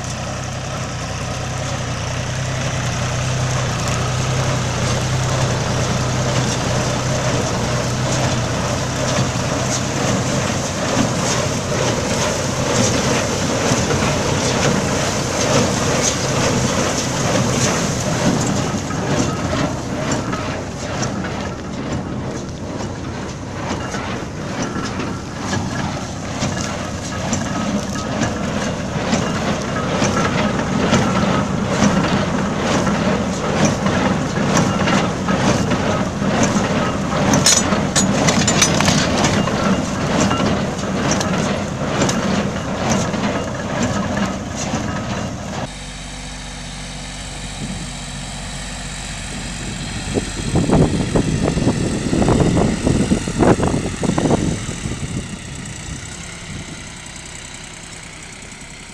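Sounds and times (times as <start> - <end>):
farm machinery clatter: 0.0 - 58.9
tractor engine: 0.0 - 58.9.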